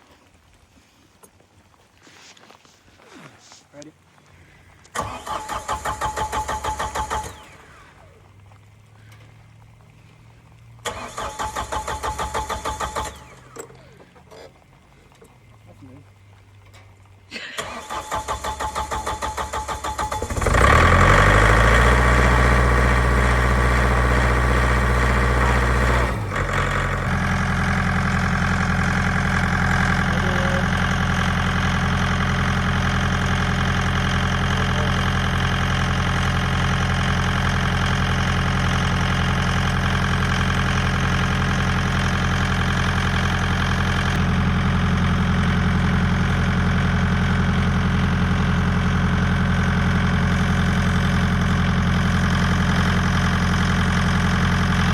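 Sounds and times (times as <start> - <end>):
tractor engine starting and idling: 4.8 - 54.9.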